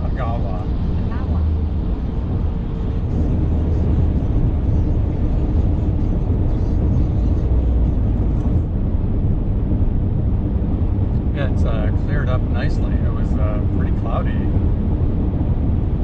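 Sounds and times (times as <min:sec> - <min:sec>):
car driving at highway speed: 0:00.0 - 0:16.0.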